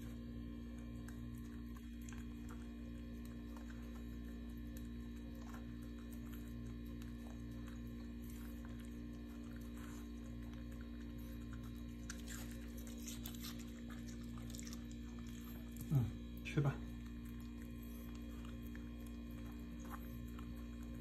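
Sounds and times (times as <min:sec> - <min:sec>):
dog chewing from metal bowl: 0:00.0 - 0:21.0
low electrical hum: 0:00.0 - 0:21.0.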